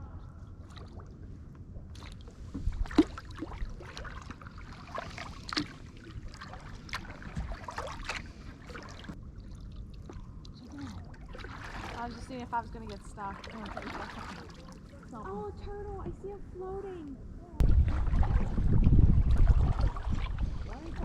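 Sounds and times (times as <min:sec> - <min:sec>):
low steady rumble: 0:00.0 - 0:21.0
paddle splashing water: 0:01.8 - 0:15.5, 0:17.6 - 0:21.0.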